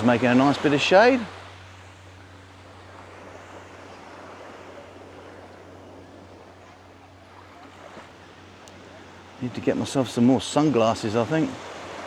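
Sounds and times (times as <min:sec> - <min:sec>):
gentle waves on sandy beach: 0:00.0 - 0:12.0.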